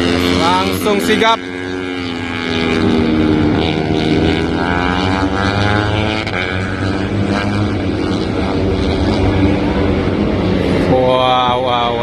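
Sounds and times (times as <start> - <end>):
race motorcycles at high revs: 0.0 - 12.0.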